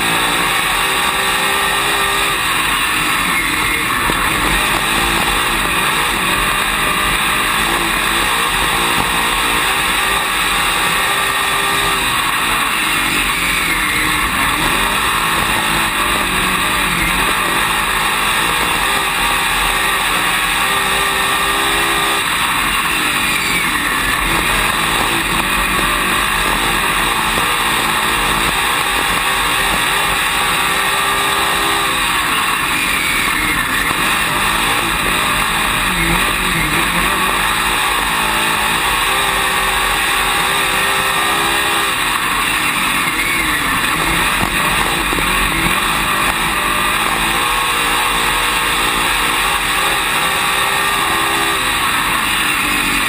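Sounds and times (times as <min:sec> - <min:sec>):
race car engine running hard: 0:00.0 - 0:53.0.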